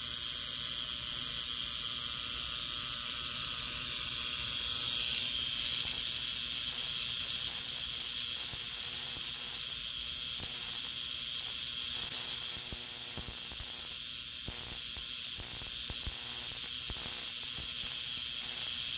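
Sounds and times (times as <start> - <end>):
tesla coil buzzing and crackling: 0.0 - 18.9.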